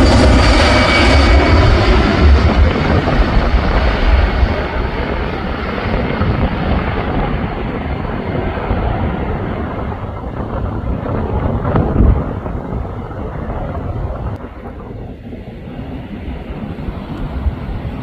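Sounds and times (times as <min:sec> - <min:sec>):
jet engines at takeoff: 0:00.0 - 0:18.0.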